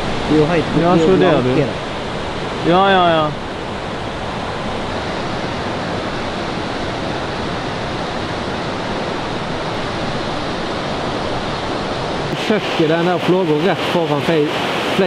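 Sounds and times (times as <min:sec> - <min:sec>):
fast-flowing river rushing: 0:00.0 - 0:15.0.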